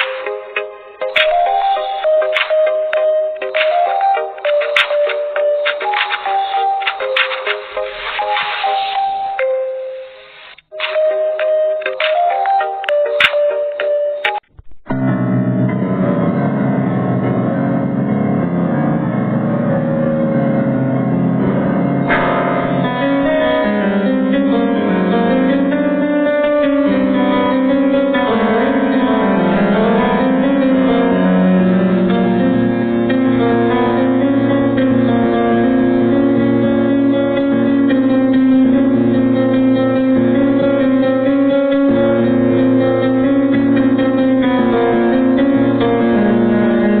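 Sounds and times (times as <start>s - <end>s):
instrumental music with held chords: 0.0s - 47.0s.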